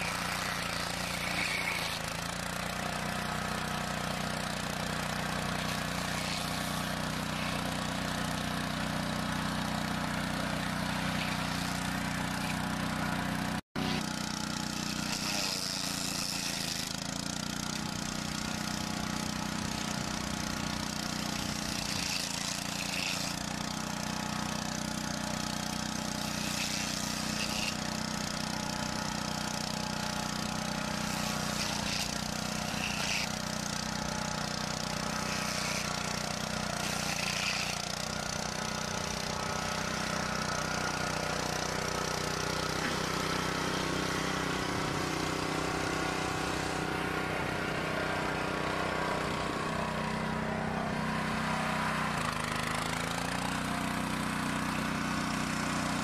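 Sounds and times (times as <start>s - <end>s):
machinery engine running: 0.0s - 56.0s.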